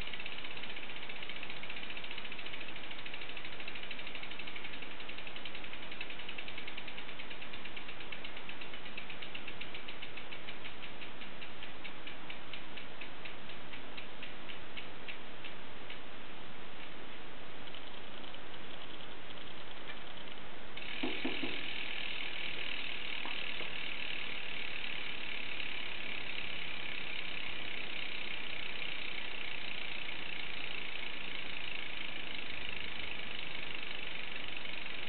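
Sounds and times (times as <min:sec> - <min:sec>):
bicycle freehub ratcheting: 0:00.0 - 0:16.0, 0:17.6 - 0:35.0.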